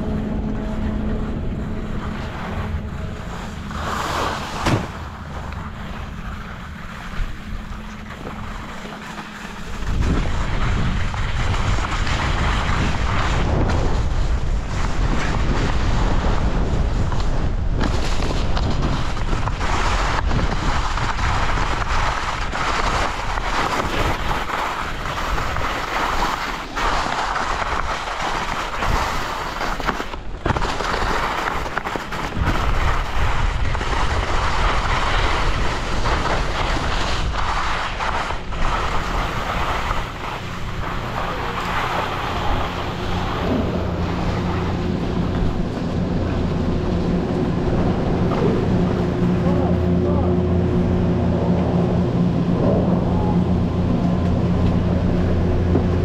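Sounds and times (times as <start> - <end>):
wind buffeting microphone: 0.0 - 30.6, 31.2 - 56.0
skis scraping over snow: 0.0 - 51.8
low machinery hum: 0.0 - 56.0.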